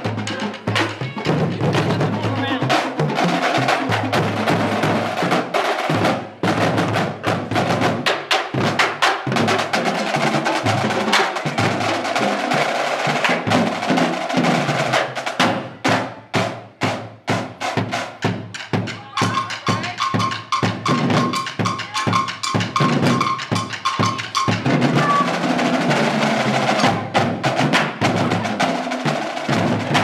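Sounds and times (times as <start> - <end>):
marching snare and bass drums: 0.0 - 30.0.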